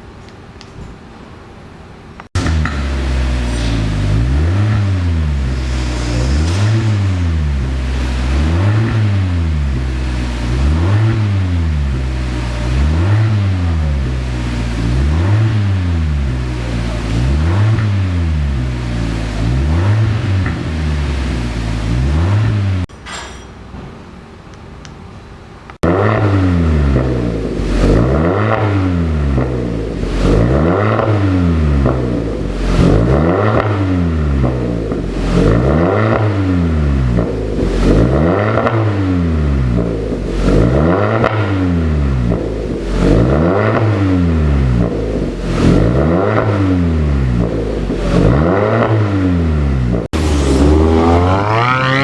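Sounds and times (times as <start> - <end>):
car engine revving: 2.4 - 22.9, 25.8 - 52.0.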